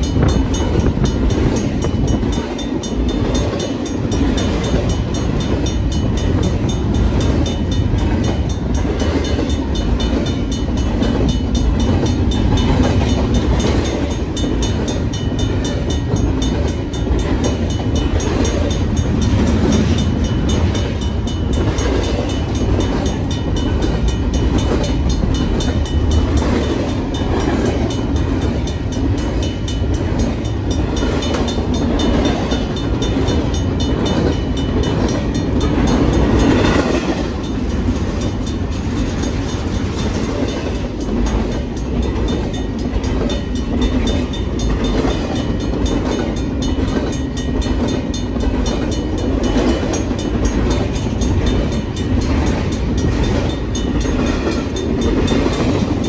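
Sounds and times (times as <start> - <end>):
freight train wheels clattering on rails: 0.0 - 56.0.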